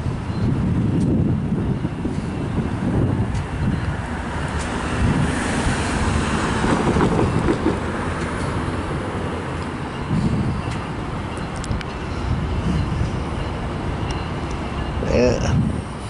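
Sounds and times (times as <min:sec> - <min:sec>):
wind on microphone: 0:00.0 - 0:09.2, 0:09.9 - 0:16.0
diesel locomotive rumbling: 0:00.0 - 0:16.0.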